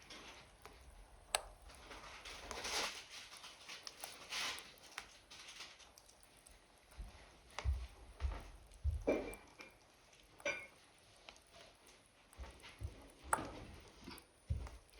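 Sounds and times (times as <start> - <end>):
wood logs crackling in stove: 0.0 - 14.9.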